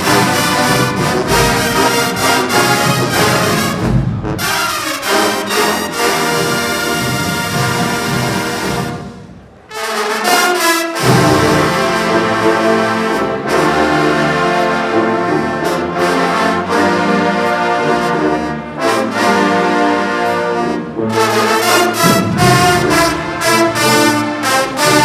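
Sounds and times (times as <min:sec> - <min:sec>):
low brass bass line: 0:00.0 - 0:25.0
marching band brass chords: 0:00.0 - 0:25.0.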